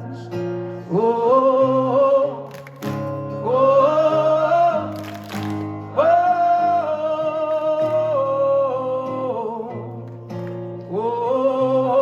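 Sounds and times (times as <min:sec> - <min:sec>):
man singing long oh: 0:00.0 - 0:02.6, 0:03.4 - 0:05.3, 0:05.9 - 0:10.0, 0:10.9 - 0:12.0.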